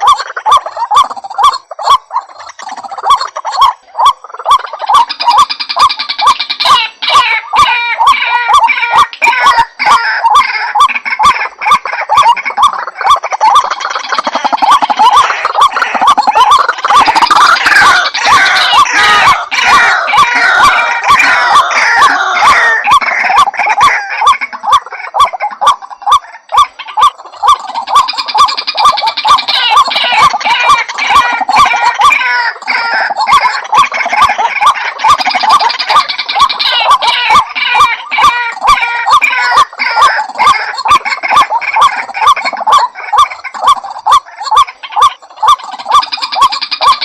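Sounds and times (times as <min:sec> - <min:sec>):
bird kwak calls: 0:00.0 - 0:47.0
chorus of higher bird calls: 0:00.0 - 0:47.0.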